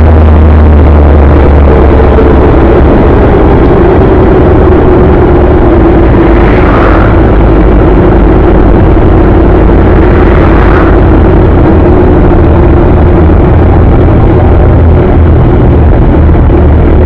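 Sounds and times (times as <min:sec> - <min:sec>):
vehicle running rumble: 0:00.0 - 0:17.0.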